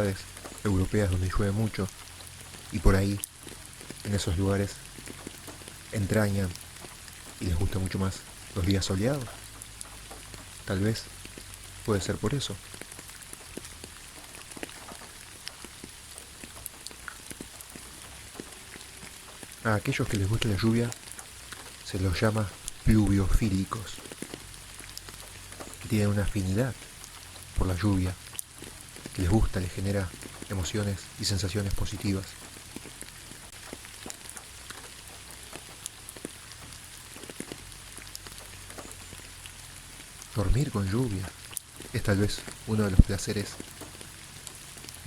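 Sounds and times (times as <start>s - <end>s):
rain hissing: 0.0s - 45.0s
raindrops tapping on surface: 0.0s - 45.0s.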